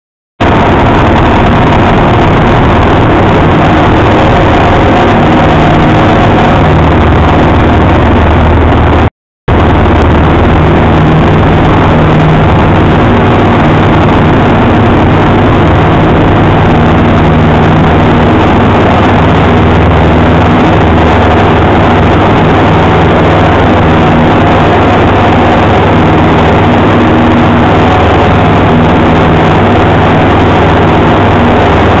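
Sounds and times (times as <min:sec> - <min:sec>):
propeller plane engine drone: 0:00.4 - 0:32.0.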